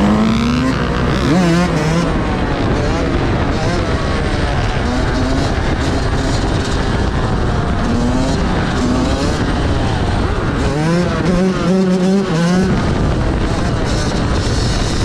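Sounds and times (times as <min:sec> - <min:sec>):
motorcycle engines revving: 0:00.0 - 0:15.0
wind and road noise: 0:00.0 - 0:15.0.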